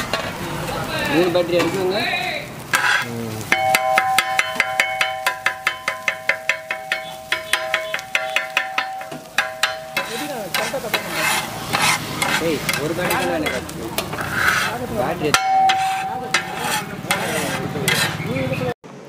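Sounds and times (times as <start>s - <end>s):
food sizzling: 0.0s - 18.8s
spatula scraping griddle: 2.6s - 18.6s
metal spatulas clinking: 2.8s - 18.3s.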